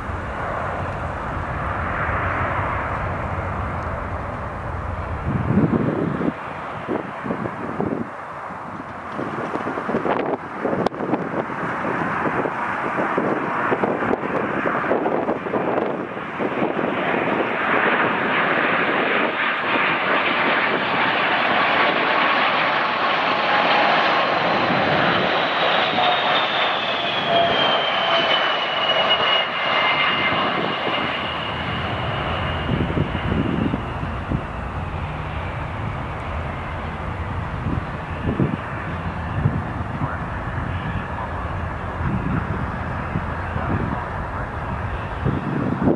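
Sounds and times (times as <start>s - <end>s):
jet roar with fan whine: 0.0s - 45.9s.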